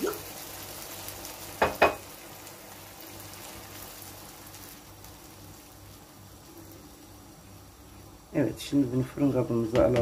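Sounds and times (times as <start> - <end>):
stew simmering in a pan: 0.0 - 10.0.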